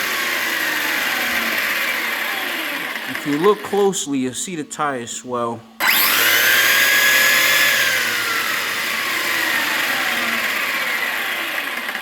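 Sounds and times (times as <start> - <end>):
electric motor whine: 0.0 - 3.8, 5.8 - 12.0.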